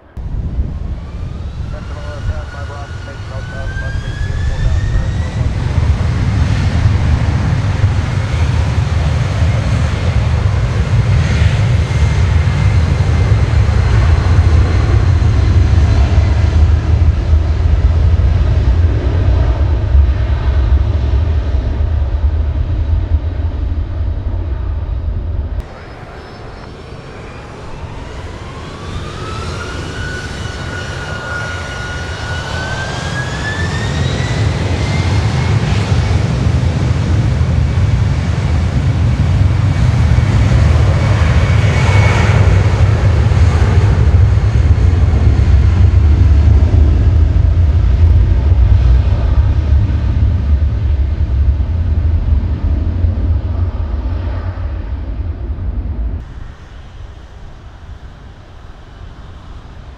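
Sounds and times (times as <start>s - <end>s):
jet engine rumble: 0.0s - 59.9s
jet engines spooling up whine: 0.0s - 59.9s.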